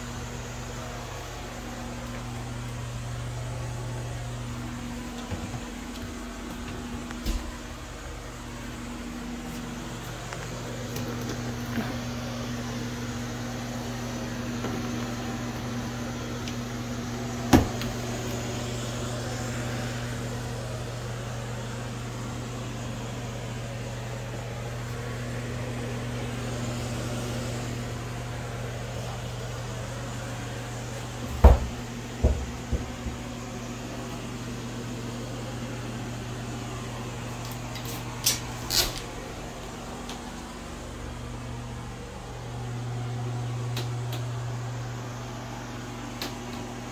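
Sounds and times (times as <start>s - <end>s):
fan humming: 0.0s - 46.9s.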